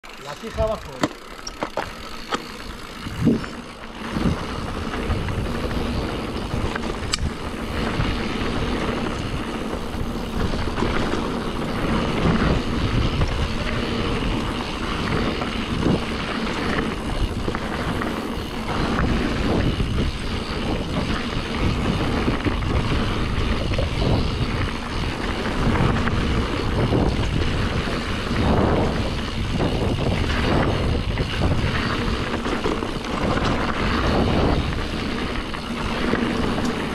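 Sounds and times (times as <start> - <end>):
bike tyres rumbling on dirt: 0.0 - 36.9
wind rushing on microphone: 2.8 - 36.9.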